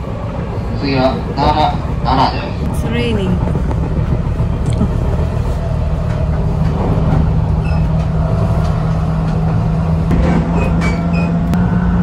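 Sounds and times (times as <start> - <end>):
low hum: 0.0 - 12.0
train wheels rumbling on rails: 0.0 - 12.0.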